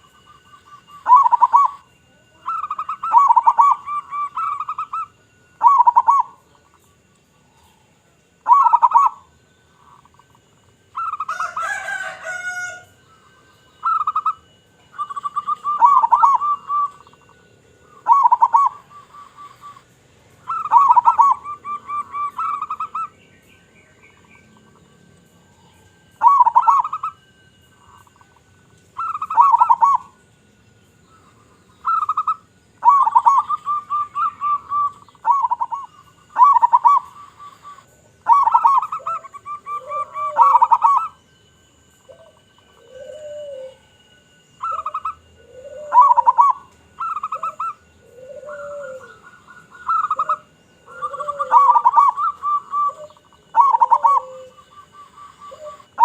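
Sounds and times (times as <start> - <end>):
doves cooing: 0.0 - 30.4, 31.0 - 56.0
lower arched cooing call: 0.0 - 56.0.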